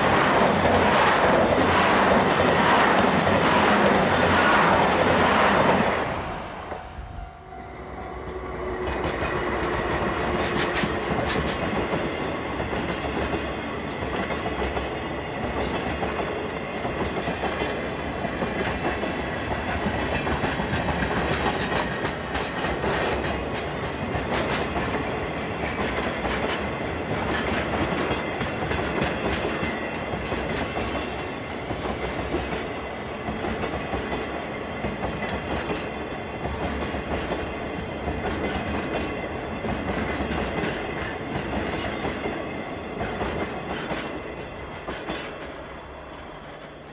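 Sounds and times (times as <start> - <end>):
freight train rolling past: 0.0 - 46.9.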